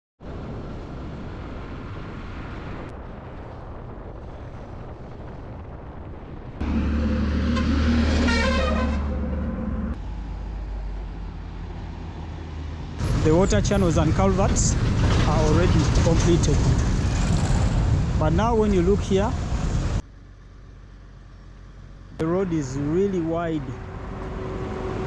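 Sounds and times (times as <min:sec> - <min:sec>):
road traffic: 0:00.2 - 0:04.7, 0:06.6 - 0:25.0.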